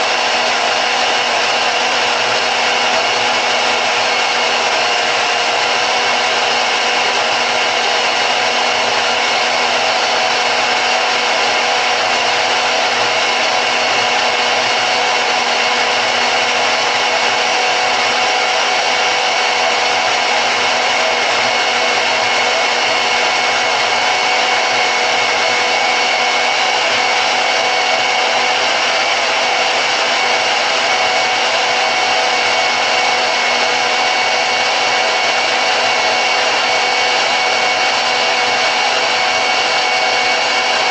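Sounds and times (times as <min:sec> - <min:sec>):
band saw motor whirring: 0:00.0 - 0:40.9.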